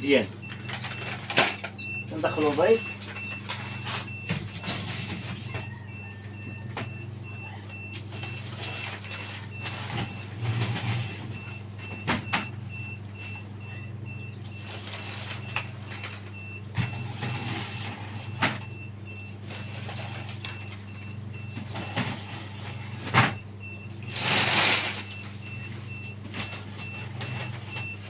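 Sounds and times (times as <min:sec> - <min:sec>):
incubator fan humming: 0:00.0 - 0:28.0.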